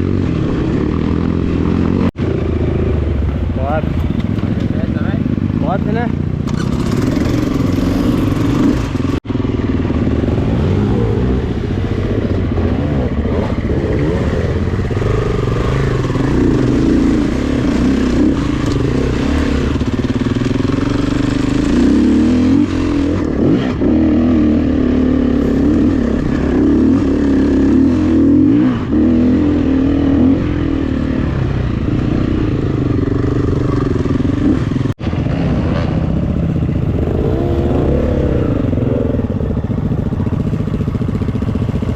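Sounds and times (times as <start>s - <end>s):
dirt bike engine revving: 0.0s - 3.8s, 5.0s - 41.9s.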